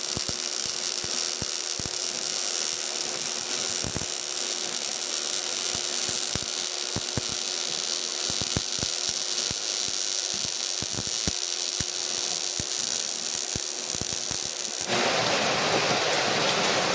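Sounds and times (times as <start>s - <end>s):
welding arc hiss and crackle: 0.0s - 16.9s.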